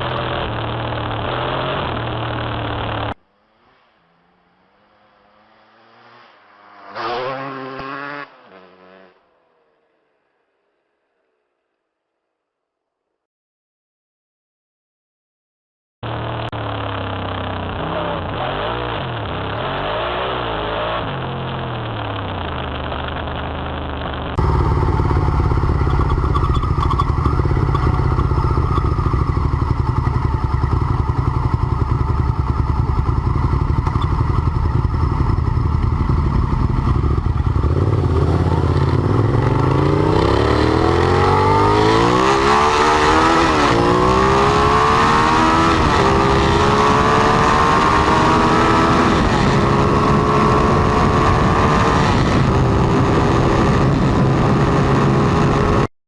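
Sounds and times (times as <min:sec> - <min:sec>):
motorcycle engine revving: 0:00.0 - 0:10.2, 0:16.0 - 0:55.9.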